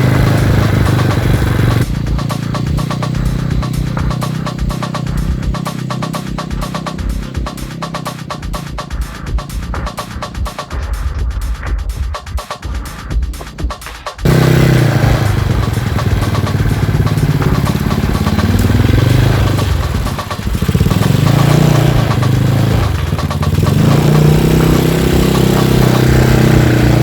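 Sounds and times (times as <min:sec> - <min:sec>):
scooter engine revving: 0:00.0 - 0:11.5, 0:12.6 - 0:27.0.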